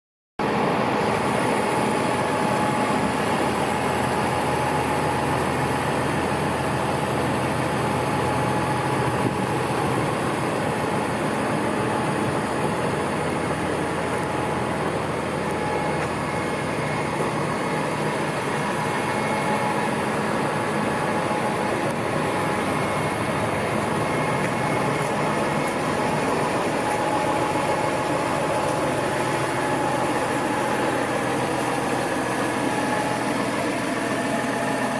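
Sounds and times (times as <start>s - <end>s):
tractor diesel engine idling: 0.4s - 34.9s.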